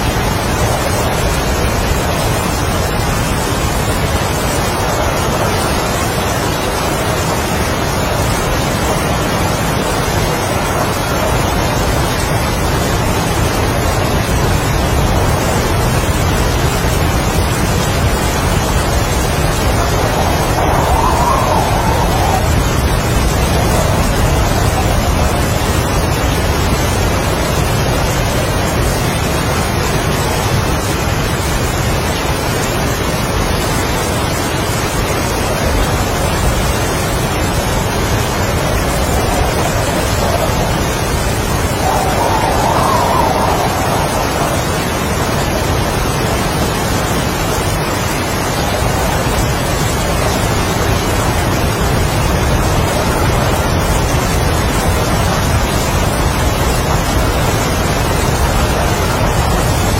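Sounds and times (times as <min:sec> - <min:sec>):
heavy rain: 0:00.0 - 0:59.9
strong wind: 0:00.0 - 0:59.9.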